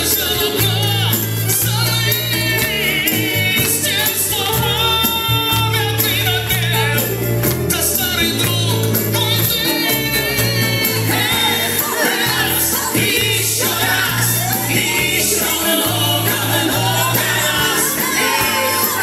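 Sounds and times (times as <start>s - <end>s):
dance music with singing: 0.0s - 19.0s
steady bass line: 0.0s - 19.0s.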